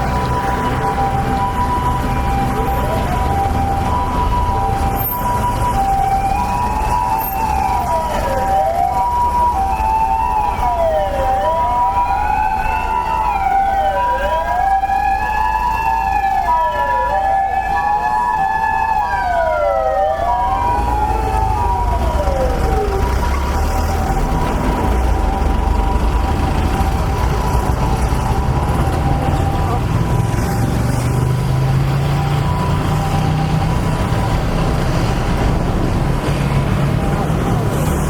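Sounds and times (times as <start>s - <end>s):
two-tone hi-lo siren: 0.0s - 35.9s
traffic rumble: 0.0s - 38.0s
wailing siren: 0.0s - 38.0s.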